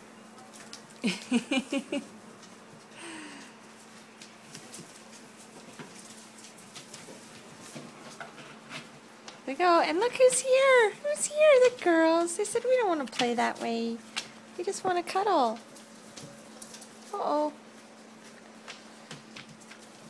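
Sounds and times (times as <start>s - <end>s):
paws scuffling and pattering: 0.2s - 3.0s, 3.6s - 20.0s.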